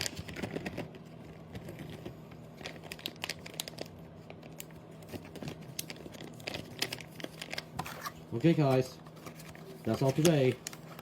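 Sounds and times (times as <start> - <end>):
crinkly material crinkling: 0.0 - 11.0.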